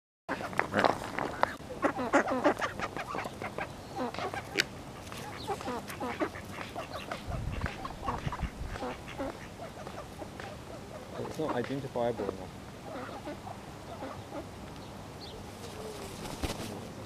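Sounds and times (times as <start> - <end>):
ducks quacking: 0.3 - 14.6.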